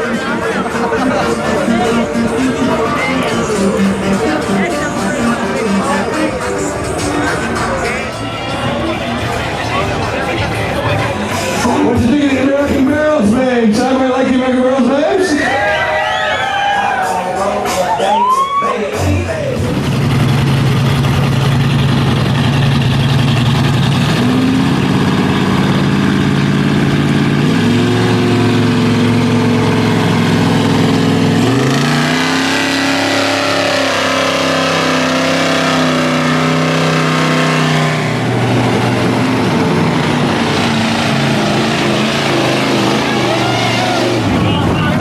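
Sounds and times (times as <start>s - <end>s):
truck engine revving high: 0.0s - 45.0s.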